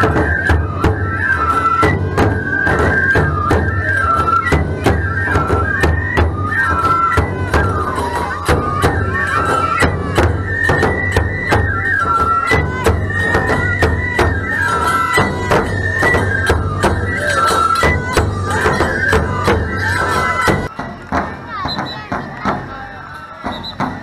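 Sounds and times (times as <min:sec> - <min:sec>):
bamboo flutes melody: 0:00.0 - 0:24.0
taiko drums: 0:00.0 - 0:24.0.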